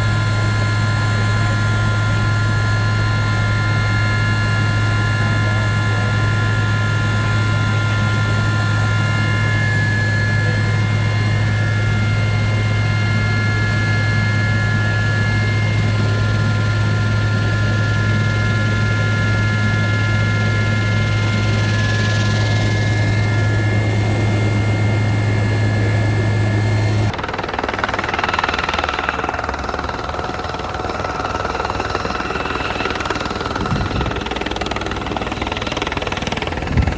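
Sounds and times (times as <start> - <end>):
helicopter in flight: 0.0 - 36.9.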